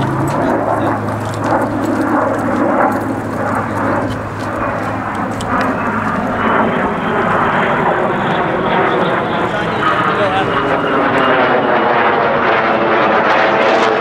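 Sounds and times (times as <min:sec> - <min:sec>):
aircraft engine drone: 0:00.0 - 0:14.0.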